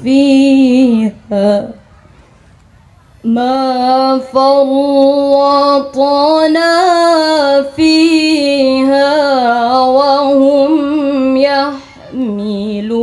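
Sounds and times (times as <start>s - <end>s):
woman chanting through a microphone: 0.0s - 1.9s, 3.2s - 13.0s.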